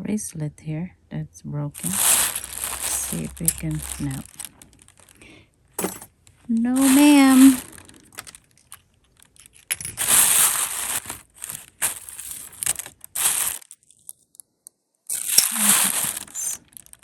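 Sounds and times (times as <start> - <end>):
jewelry rustling and crinkling: 1.8 - 14.2, 15.1 - 17.0.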